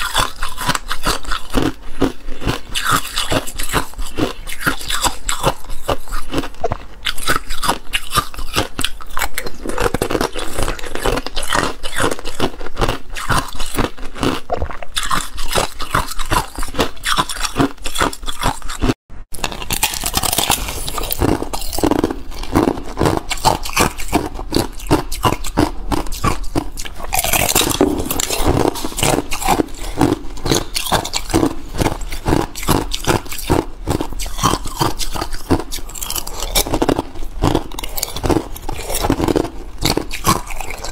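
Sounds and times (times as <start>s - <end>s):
ice crunching between teeth: 0.0s - 40.9s.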